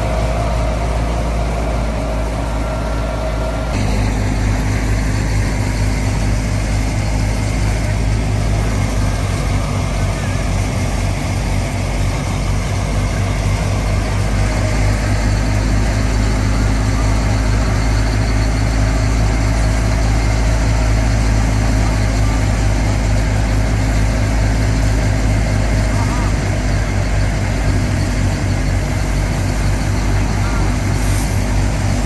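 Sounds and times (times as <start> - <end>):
thresher machine running: 0.0 - 32.0
tractor diesel engine running: 0.0 - 32.0.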